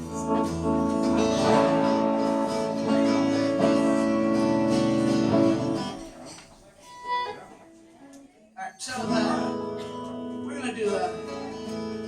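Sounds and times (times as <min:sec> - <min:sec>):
acoustic guitar strummed: 0:00.0 - 0:07.5, 0:08.8 - 0:12.0.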